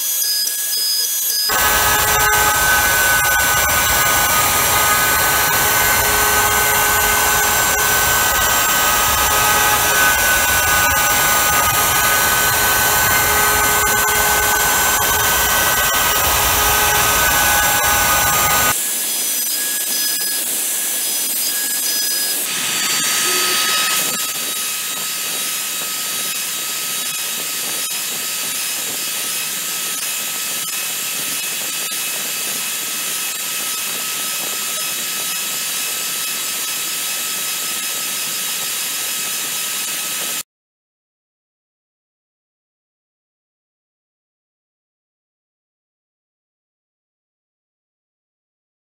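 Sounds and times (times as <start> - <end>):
router spindle cutting wood: 0.0 - 40.4.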